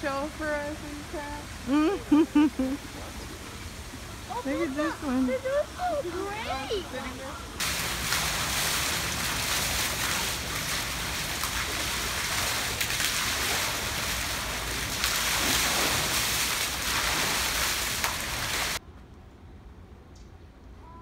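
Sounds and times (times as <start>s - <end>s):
flowing water splashing: 0.0s - 18.8s.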